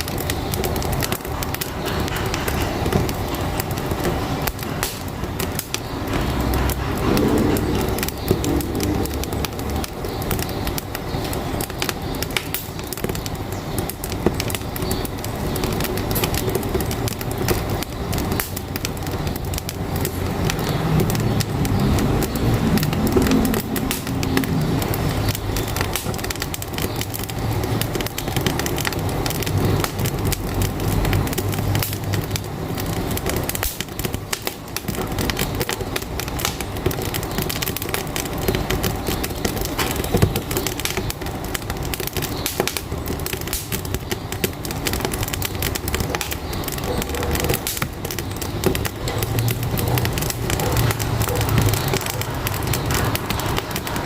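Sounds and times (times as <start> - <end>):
truck engine rumbling: 0.0 - 54.0
wood fire crackling in stove: 0.0 - 54.0.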